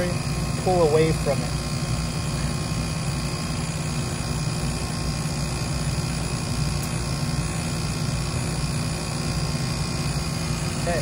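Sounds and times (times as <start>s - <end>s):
condenser fan airflow: 0.0s - 11.0s
low compressor hum: 0.0s - 11.0s.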